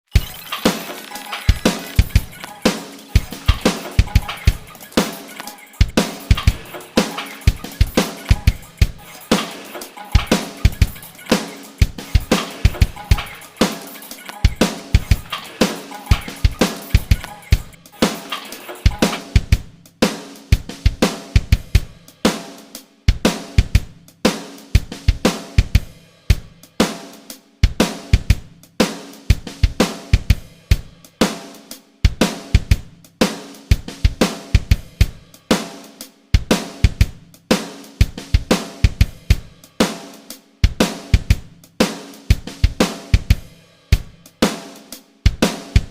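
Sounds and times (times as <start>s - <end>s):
drum kit beat: 0.0s - 45.9s.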